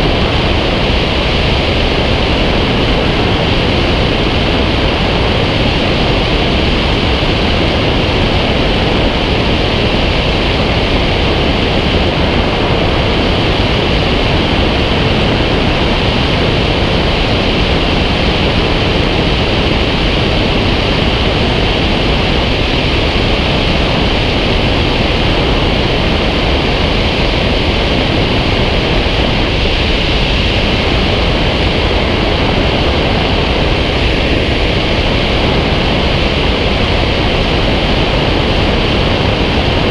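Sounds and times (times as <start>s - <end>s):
rushing airflow: 0.0s - 39.9s.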